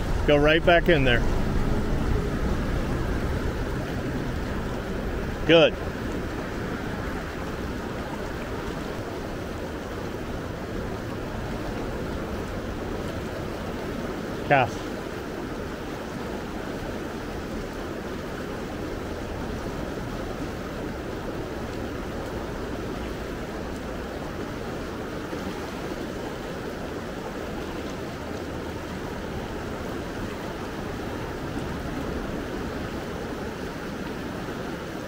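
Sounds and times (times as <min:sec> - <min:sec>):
river current flowing: 0:00.0 - 0:35.0.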